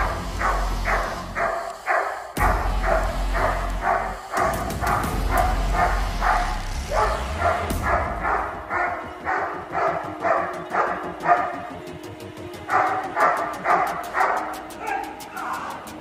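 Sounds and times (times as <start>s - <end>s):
dog barking: 0.0s - 11.8s, 12.7s - 15.6s.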